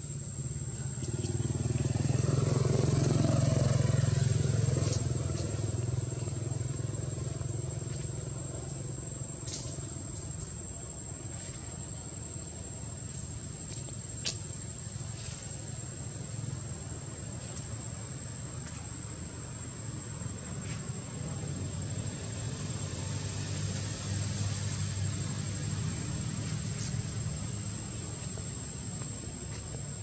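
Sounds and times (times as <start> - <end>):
forest insects droning: 0.0 - 30.0.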